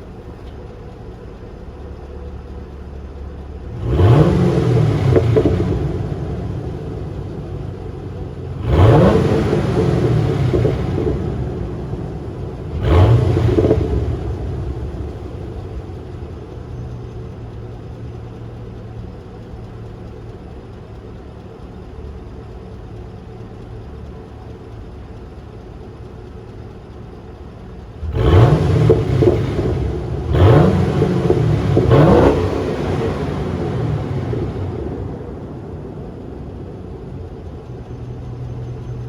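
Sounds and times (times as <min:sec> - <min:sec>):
car engine idling and revving: 0:00.0 - 0:39.0
exhaust crackles and pops: 0:00.0 - 0:39.0.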